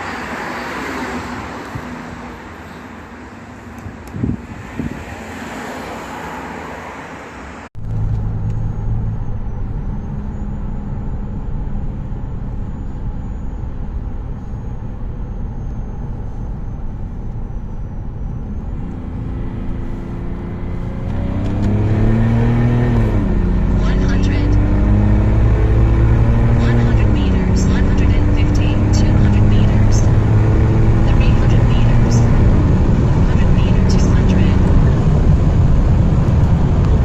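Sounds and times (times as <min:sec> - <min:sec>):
diesel engine droning: 0:00.0 - 0:37.0
road noise: 0:00.0 - 0:37.0.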